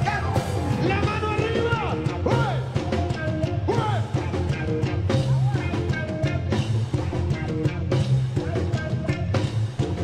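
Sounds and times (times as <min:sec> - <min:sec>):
ska rock band playing: 0:00.0 - 0:10.0.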